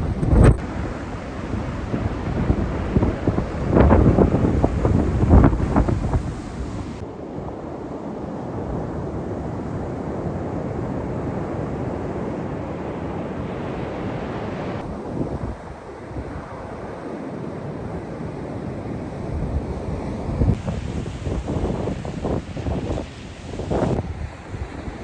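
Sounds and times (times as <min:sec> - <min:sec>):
wind buffeting microphone: 0:00.0 - 0:07.0, 0:08.5 - 0:25.0
ocean surf washing onto beach: 0:00.0 - 0:25.0.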